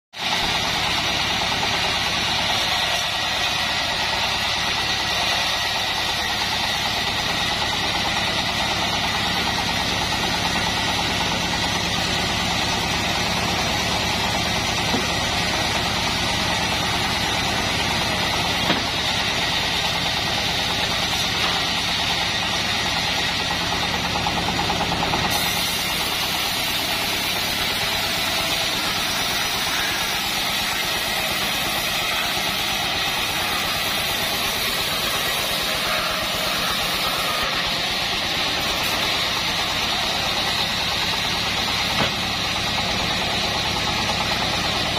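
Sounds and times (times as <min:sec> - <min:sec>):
band sawmill blade sawing a log: 0:00.2 - 0:44.9.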